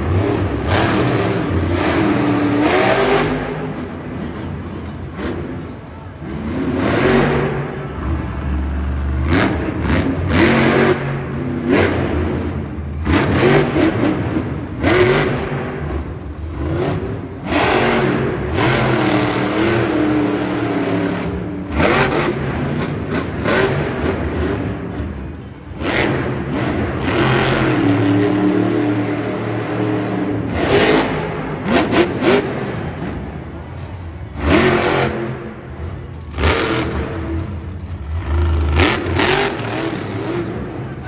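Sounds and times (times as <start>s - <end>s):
truck engine revving hard: 0.0s - 5.6s, 6.2s - 41.0s.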